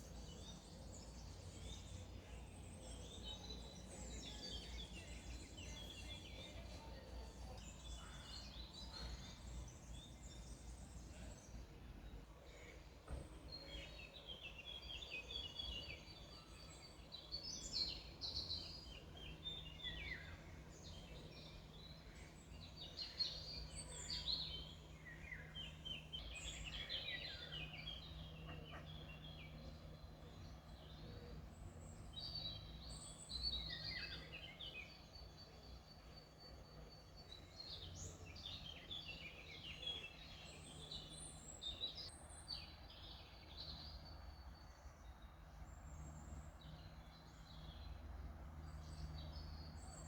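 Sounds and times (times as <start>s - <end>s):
songbirds chirping: 0.0s - 50.0s.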